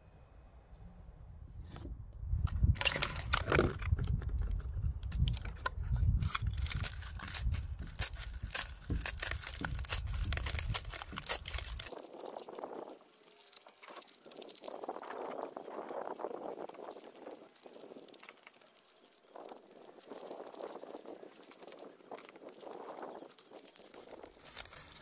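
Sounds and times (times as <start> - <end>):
seeds crackling and rattling: 2.6 - 25.0
seeds dropping into a bowl: 2.8 - 25.0.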